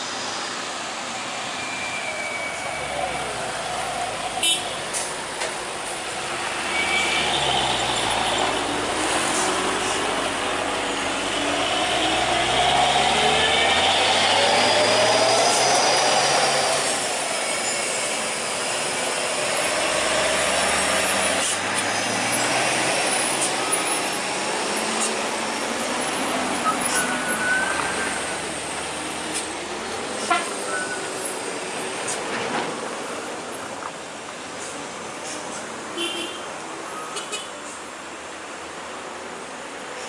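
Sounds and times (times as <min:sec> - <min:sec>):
diesel trucks climbing: 0:00.0 - 0:35.8.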